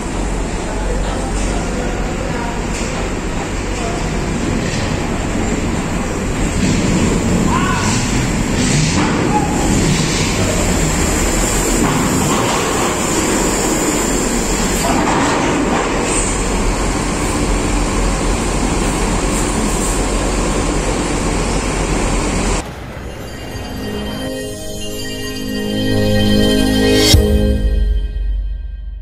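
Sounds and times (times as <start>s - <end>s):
coach engine rumble: 0.0s - 27.2s
road noise: 0.0s - 27.2s.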